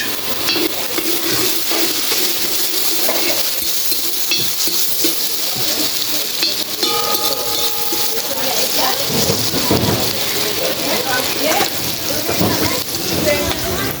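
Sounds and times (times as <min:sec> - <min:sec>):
utensils clinking against pot: 0:00.0 - 0:13.6
food sizzling in a pot: 0:00.0 - 0:14.0.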